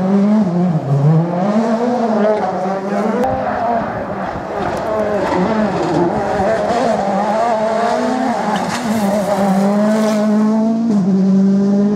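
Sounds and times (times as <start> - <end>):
rally car engine revving: 0.0 - 11.9.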